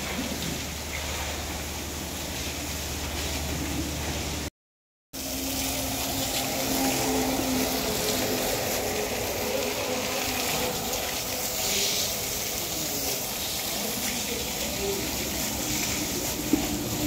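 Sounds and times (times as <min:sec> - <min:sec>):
hose water spraying on metal: 0:00.0 - 0:04.5, 0:05.2 - 0:17.0.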